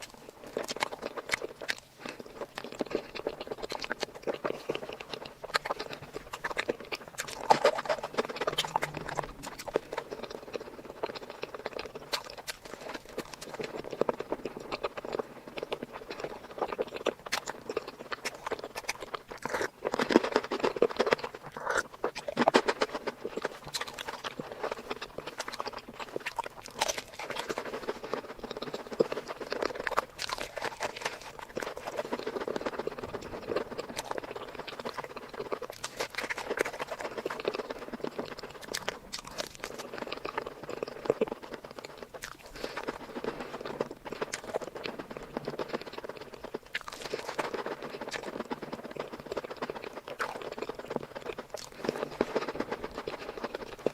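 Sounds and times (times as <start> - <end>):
person chewing sweets: 0.0 - 53.9.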